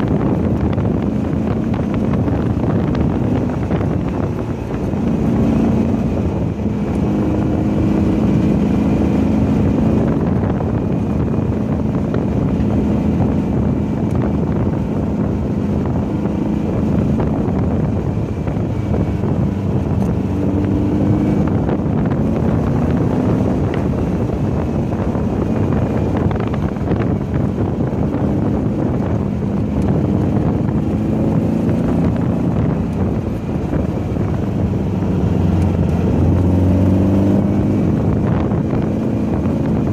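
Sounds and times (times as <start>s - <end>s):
car engine running hard: 0.0s - 39.9s
wind noise: 0.0s - 39.9s.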